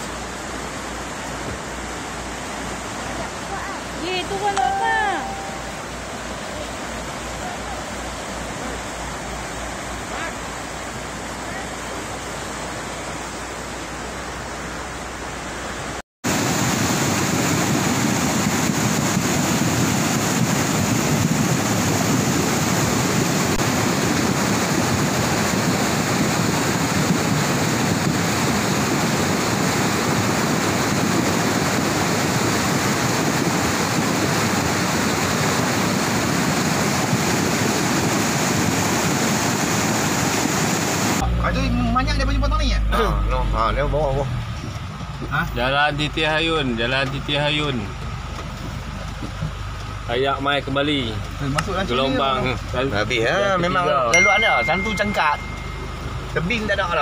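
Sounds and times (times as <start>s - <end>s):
flood water roaring: 0.0s - 57.0s.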